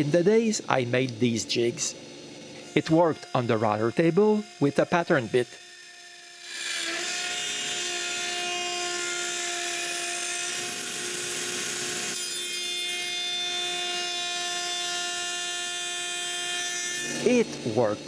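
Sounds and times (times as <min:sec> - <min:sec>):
router cutting wood: 0:00.0 - 0:18.0
router motor whine: 0:00.0 - 0:18.0.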